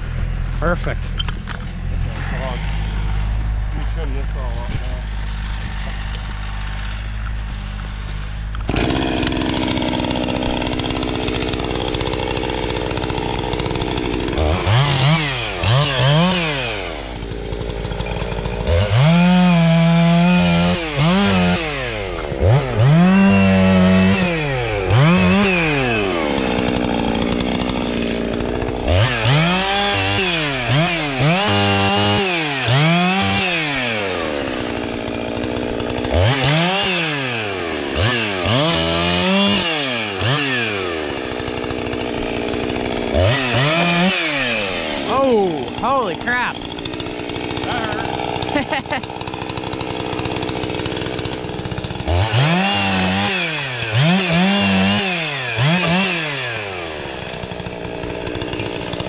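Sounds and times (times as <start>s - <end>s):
chainsaw idling and revving: 1.5s - 59.0s.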